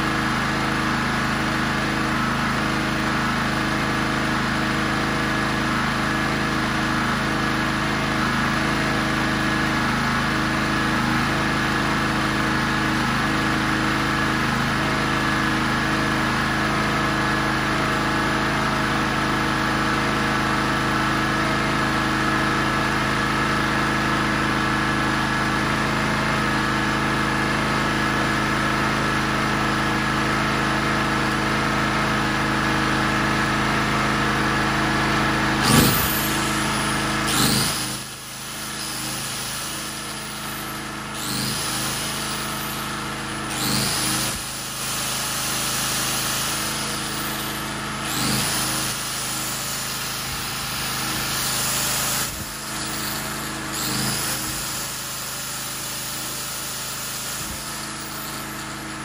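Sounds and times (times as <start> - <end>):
angle grinder spinning up and down: 0.0 - 59.0
generator engine running: 0.0 - 59.0.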